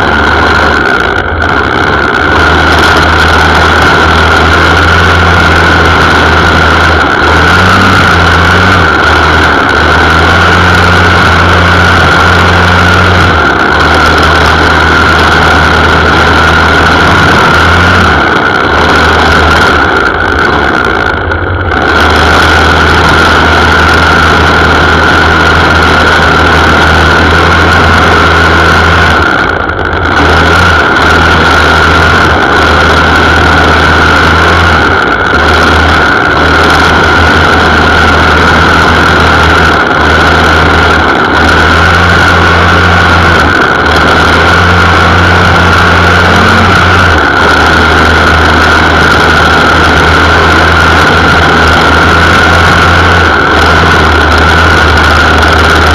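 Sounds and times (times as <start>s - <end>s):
string trimmer engine whining: 0.0s - 55.9s.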